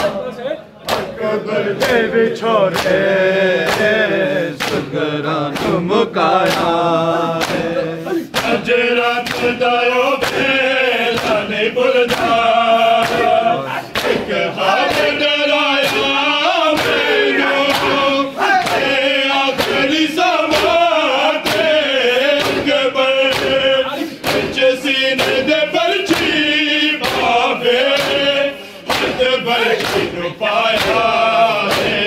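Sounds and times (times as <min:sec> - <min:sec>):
hands slapping chests: 0:00.8 - 0:01.2, 0:02.7 - 0:26.4, 0:27.0 - 0:32.0
men chanting in chorus: 0:00.9 - 0:32.0.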